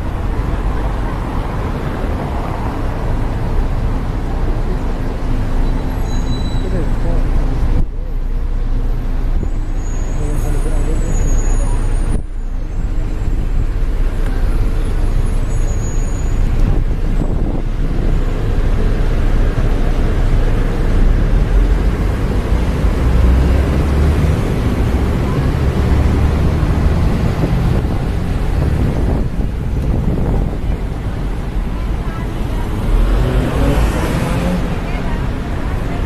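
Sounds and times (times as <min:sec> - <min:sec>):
city traffic rumble: 0:00.0 - 0:36.0.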